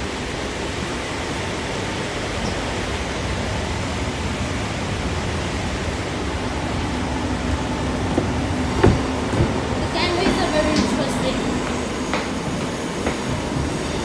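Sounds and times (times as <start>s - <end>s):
train running rumble and hiss: 0.0s - 14.0s.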